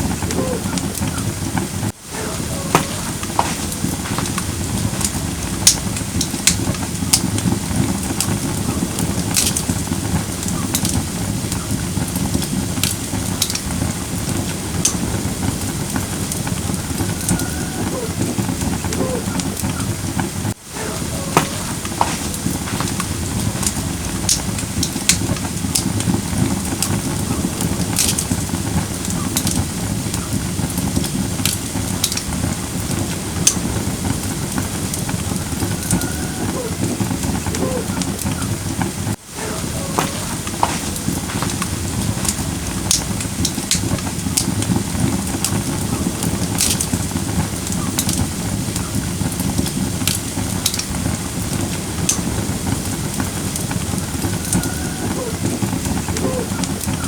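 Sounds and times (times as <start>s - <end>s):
faint wavering hiss: 0.0s - 57.0s
fire popping and crackling: 0.0s - 57.0s
low rumble of flame: 0.0s - 57.0s.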